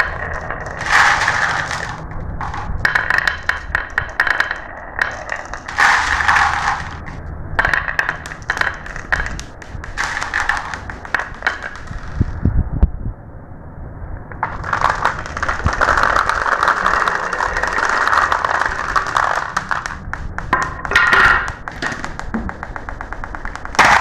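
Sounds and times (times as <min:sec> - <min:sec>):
marbles clicking: 0:00.0 - 0:12.4, 0:14.3 - 0:24.0
marbles rolling down track: 0:00.0 - 0:12.4, 0:14.3 - 0:24.0
low thumps: 0:00.0 - 0:12.6, 0:14.3 - 0:24.0.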